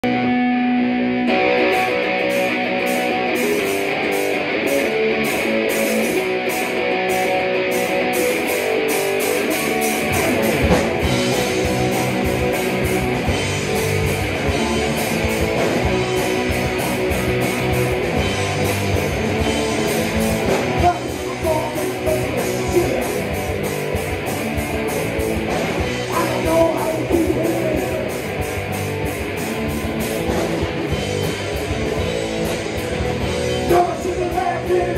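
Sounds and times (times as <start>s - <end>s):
bass guitar: 0.0s - 34.9s
electric guitars playing rock riff: 0.0s - 34.9s.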